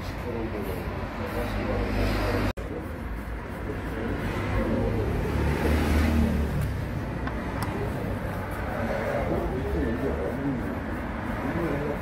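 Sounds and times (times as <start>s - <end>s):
motor vehicle rumble: 0.1s - 12.0s.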